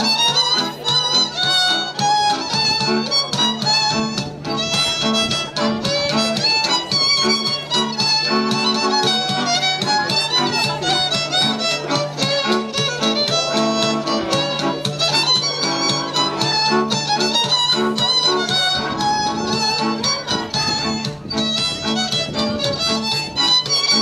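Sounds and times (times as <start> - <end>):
folk dance music with fiddle: 0.0 - 24.0.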